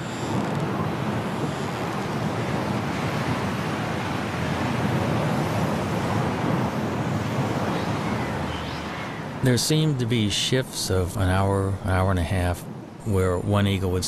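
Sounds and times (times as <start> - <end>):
strong wind blowing: 0.0 - 14.0.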